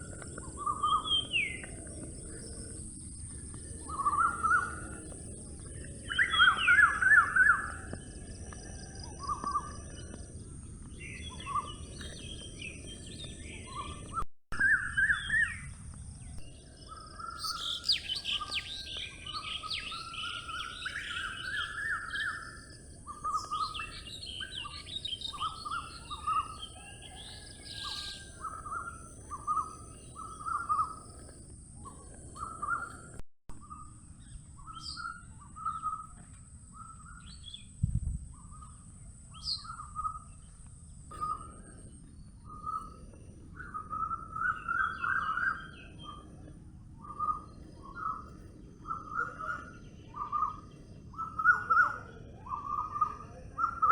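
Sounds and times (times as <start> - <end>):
forest birds chirping and singing: 0.0 - 53.9.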